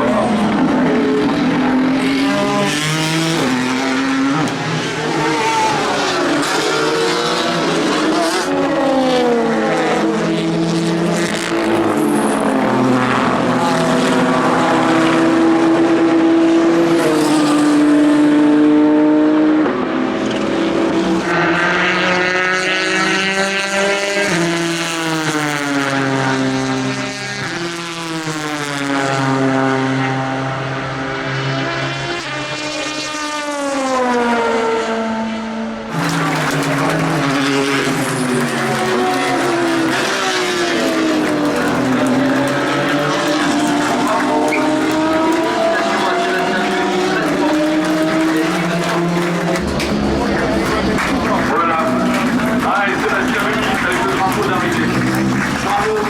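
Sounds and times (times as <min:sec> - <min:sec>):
race cars passing at high revs: 0:00.0 - 0:56.0.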